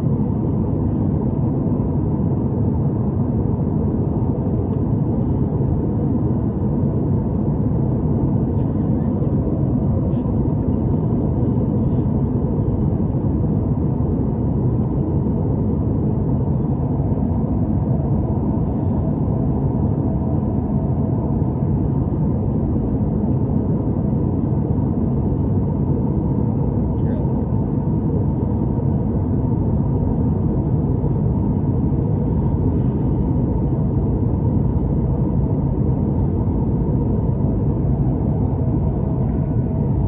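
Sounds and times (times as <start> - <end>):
airflow rush in aircraft cabin: 0.0 - 40.0
jet engines droning: 0.0 - 40.0.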